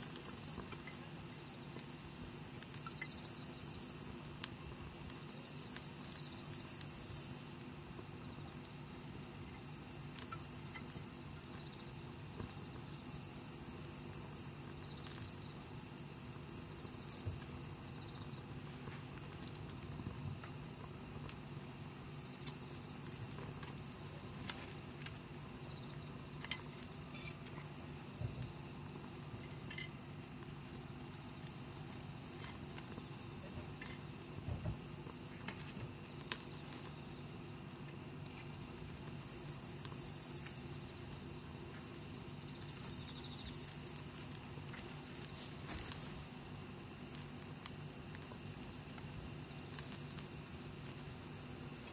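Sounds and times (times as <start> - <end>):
high-pitched insect trill: 0.0 - 51.9
lower insect trill: 0.0 - 51.9.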